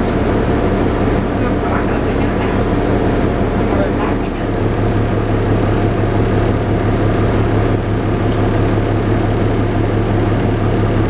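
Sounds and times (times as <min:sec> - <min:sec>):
bus diesel engine idling: 0:00.0 - 0:11.0.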